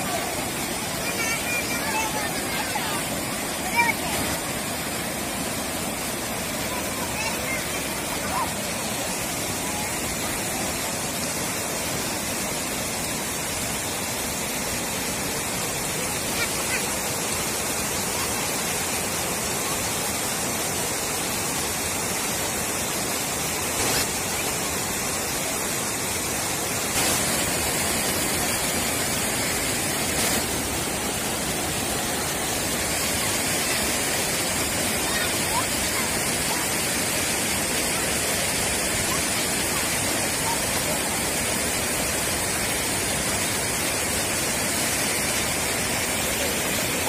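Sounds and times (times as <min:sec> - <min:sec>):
water rushing over concrete: 0:00.0 - 0:47.0.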